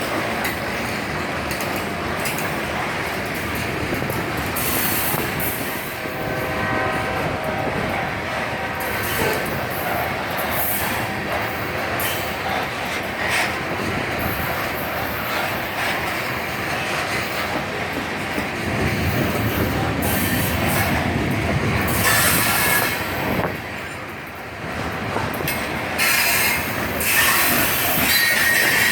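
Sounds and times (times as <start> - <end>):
freight train rolling past: 0.0 - 28.9
high wheel squeal on rails: 3.9 - 28.9.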